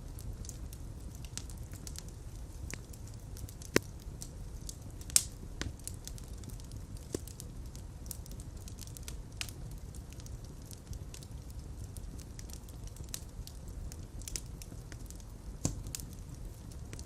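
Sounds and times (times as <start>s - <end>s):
fireplace fire crackling and popping: 0.0s - 17.0s.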